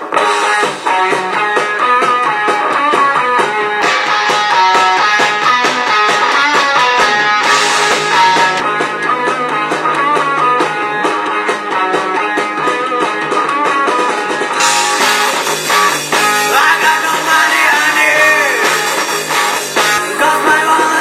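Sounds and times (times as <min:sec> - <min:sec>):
song with guitar through small speaker: 0:00.0 - 0:21.0.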